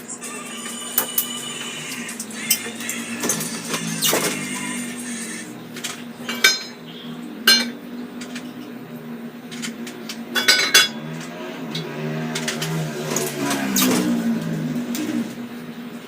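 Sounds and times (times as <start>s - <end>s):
metal utensils clinking: 0.9s - 8.7s, 9.4s - 15.2s.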